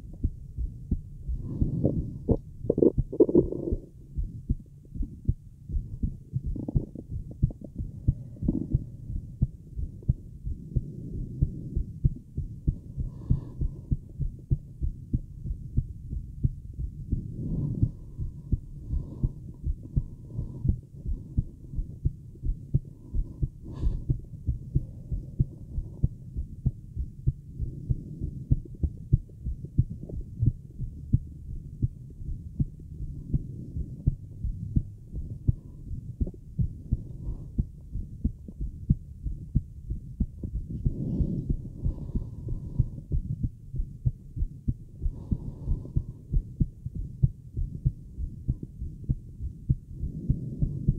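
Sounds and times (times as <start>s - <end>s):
heartbeat through stethoscope: 0.0s - 50.9s.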